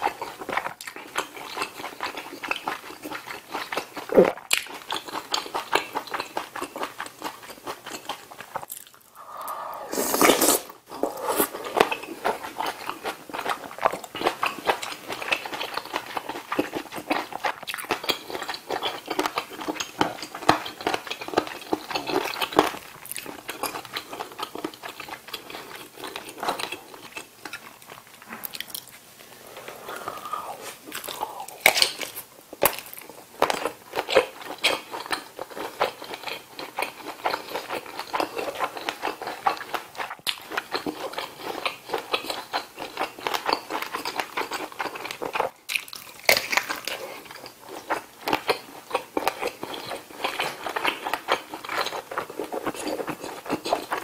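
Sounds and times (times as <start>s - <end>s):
person chewing sausage: 0.0s - 54.0s.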